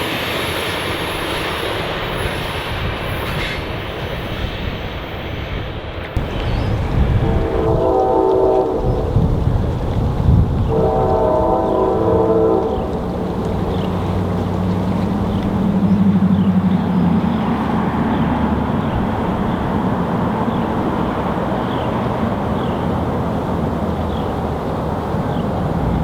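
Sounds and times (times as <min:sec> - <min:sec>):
train engine drone: 0:00.0 - 0:26.0
train wheels rolling: 0:00.0 - 0:26.0.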